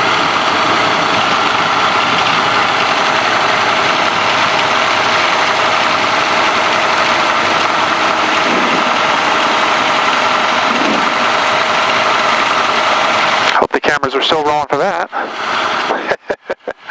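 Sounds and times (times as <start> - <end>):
propeller plane engine running: 0.0 - 16.9.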